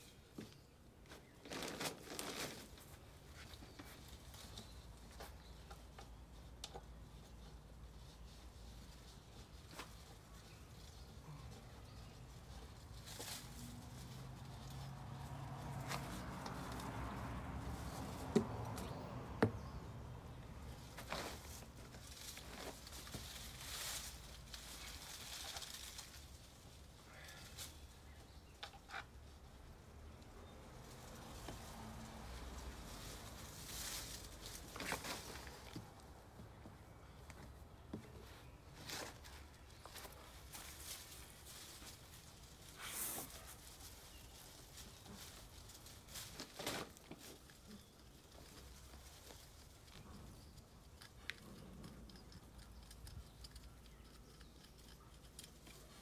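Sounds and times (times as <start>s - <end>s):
dry moss rustling and crackling: 0.0s - 56.0s.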